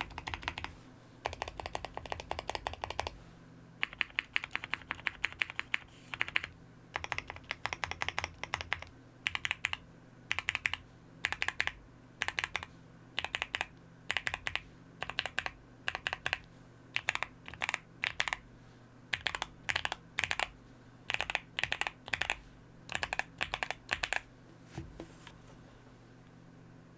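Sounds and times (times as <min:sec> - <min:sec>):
typing on mechanical keyboard: 0:00.0 - 0:03.2, 0:03.8 - 0:16.4, 0:17.0 - 0:18.4, 0:19.1 - 0:20.5, 0:21.1 - 0:24.2.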